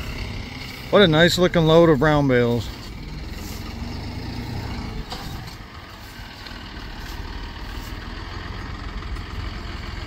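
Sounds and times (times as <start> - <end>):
heavy vehicle engine idling: 0.0 - 10.0.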